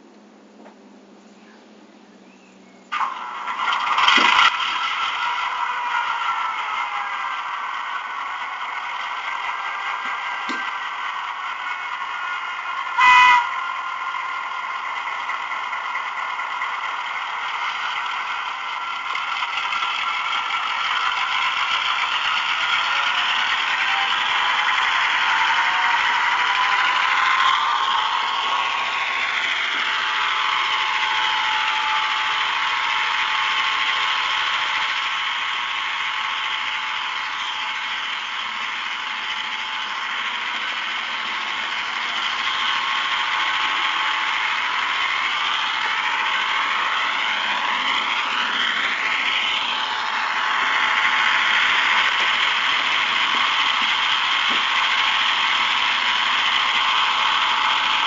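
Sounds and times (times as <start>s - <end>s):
wheels rattling on rails: 0.5s - 58.0s
model train motor whining: 2.9s - 58.0s.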